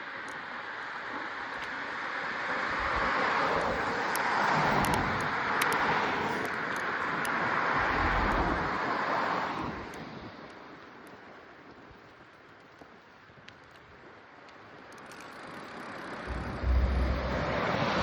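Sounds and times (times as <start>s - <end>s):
vehicle tyre and road noise: 0.0s - 18.0s.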